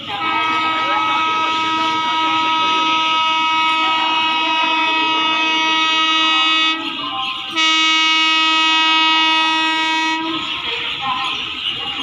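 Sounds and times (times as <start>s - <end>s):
locomotive air horn blasts: 0.0s - 11.6s
passing train: 0.0s - 12.0s.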